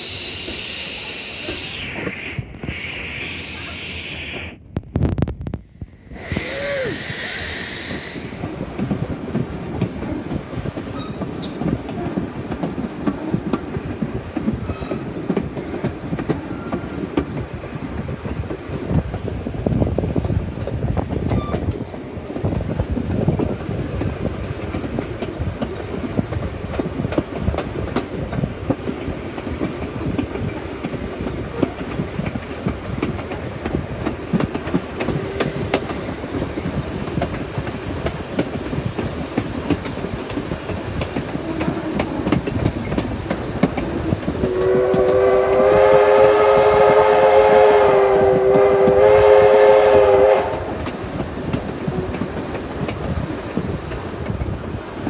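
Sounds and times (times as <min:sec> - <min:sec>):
train carriages rumbling: 0:00.0 - 0:55.0.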